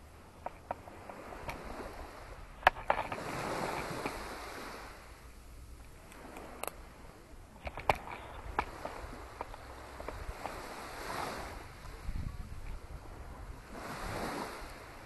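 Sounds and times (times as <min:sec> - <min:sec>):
small waves washing onto sand: 0:00.0 - 0:15.0.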